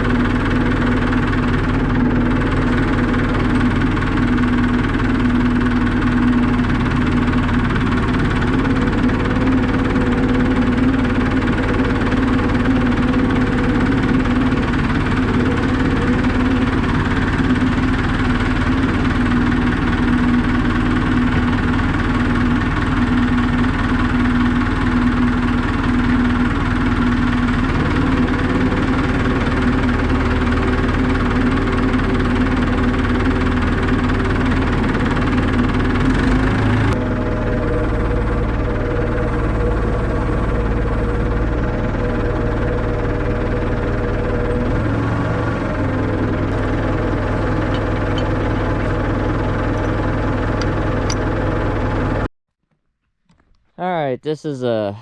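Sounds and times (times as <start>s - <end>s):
tractor engine running: 0.0s - 52.3s.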